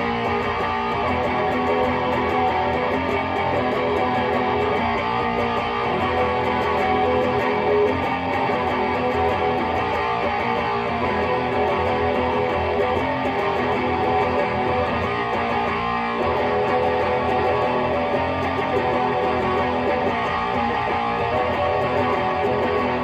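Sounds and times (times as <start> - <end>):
distorted electric guitar riffing: 0.0 - 23.0.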